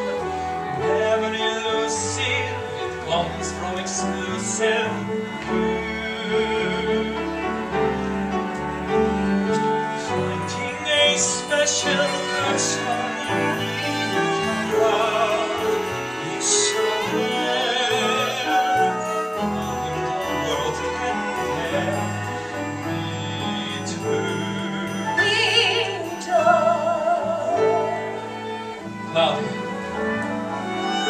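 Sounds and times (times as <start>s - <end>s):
instrumental music with strings: 0.0s - 31.0s.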